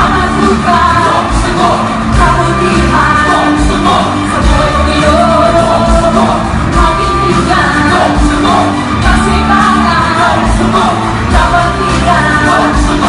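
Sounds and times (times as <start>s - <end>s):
amplified backing music with beat: 0.0s - 13.0s
pop song singing through pa: 0.0s - 13.0s.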